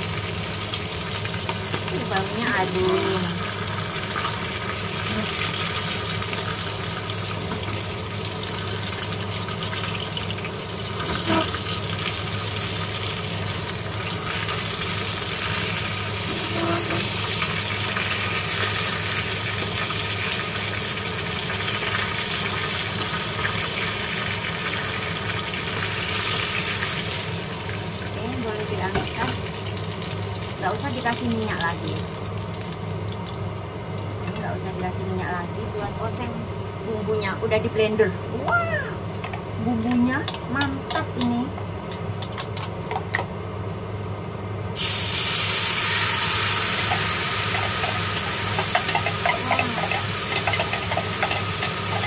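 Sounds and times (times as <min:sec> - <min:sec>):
fish sizzling in hot oil: 0:00.0 - 0:34.5, 0:44.8 - 0:52.0.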